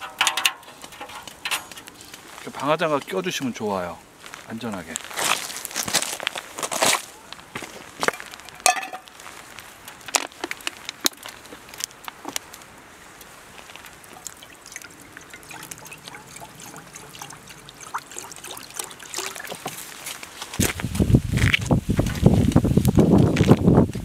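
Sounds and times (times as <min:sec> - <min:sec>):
soft low hiss: 0:00.0 - 0:24.0
wood fire crackling and popping: 0:00.0 - 0:24.0.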